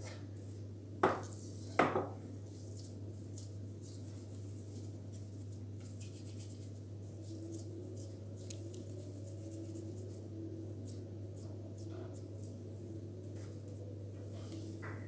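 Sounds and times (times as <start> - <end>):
steady low hum: 0.0 - 15.0
hands rubbing dough: 1.1 - 14.9.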